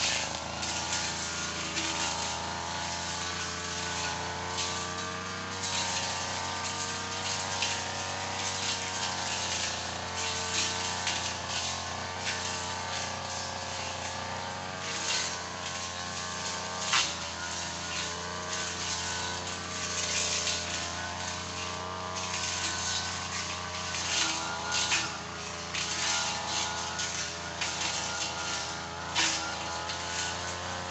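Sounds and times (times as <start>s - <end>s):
engine running under load: 0.0s - 30.9s.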